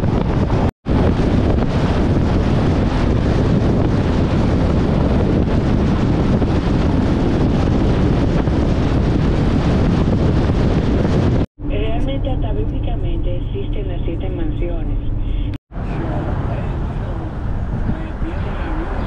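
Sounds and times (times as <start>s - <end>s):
wind buffeting microphone: 0.0s - 13.1s, 15.0s - 19.0s.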